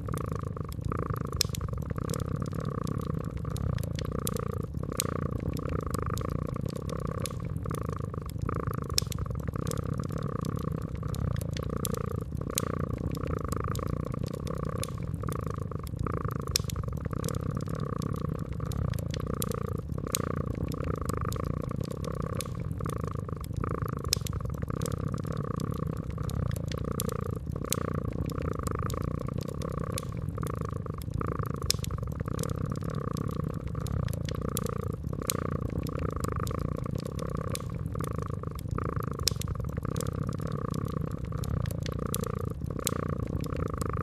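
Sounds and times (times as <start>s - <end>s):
cat purring: 0.0s - 44.0s
fireplace crackling: 0.0s - 44.0s
fire pops: 0.1s - 44.0s.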